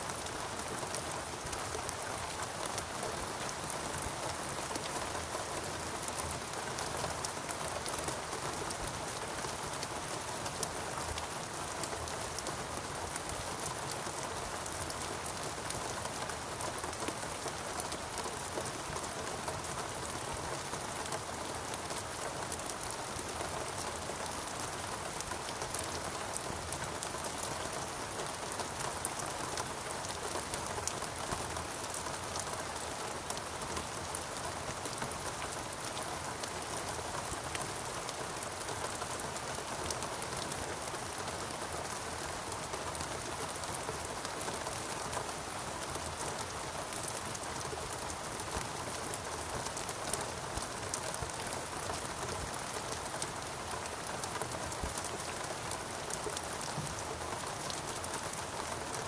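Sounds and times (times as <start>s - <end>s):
rain pattering on leaves: 0.0s - 59.0s.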